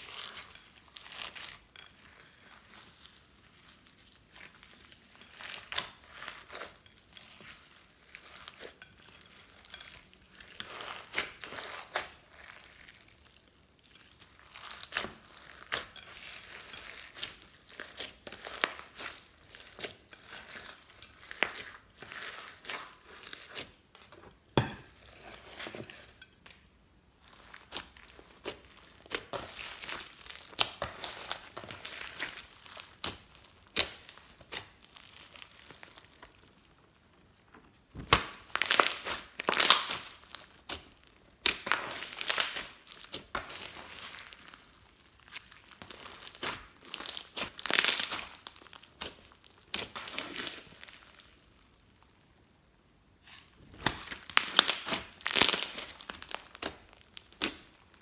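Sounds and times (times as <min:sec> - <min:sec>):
slime crackling and squishing: 0:00.0 - 0:24.1, 0:27.0 - 0:58.0.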